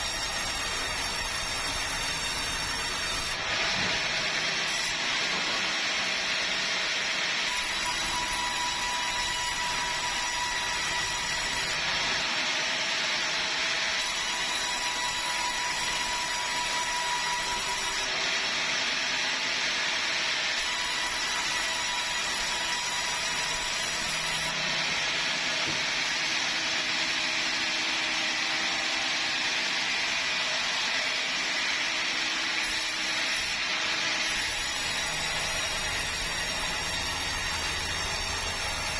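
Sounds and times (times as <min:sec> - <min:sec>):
sawmill saw cutting hardwood: 0:00.0 - 0:38.9.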